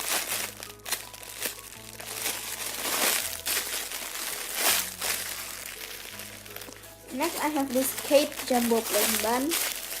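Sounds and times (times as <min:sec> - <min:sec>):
soft background music: 0:00.0 - 0:10.0
squishy toy crinkling and rustling: 0:00.0 - 0:10.0.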